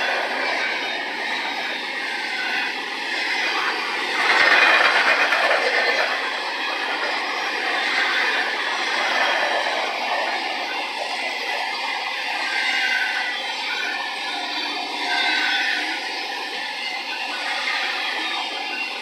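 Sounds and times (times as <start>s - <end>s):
steel wheels on rails: 0.0s - 19.0s.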